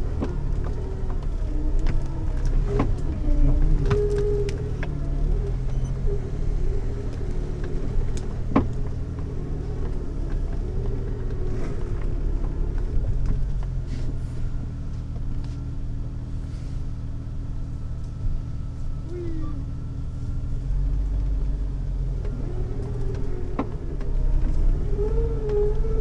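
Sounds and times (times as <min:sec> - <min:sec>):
car engine running at low speed: 0:00.0 - 0:26.0.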